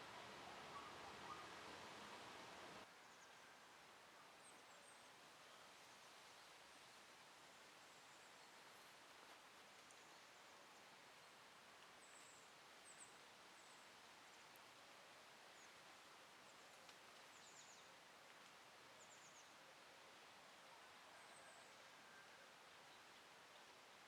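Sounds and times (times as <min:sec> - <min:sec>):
faint hiss: 0:00.0 - 0:24.0.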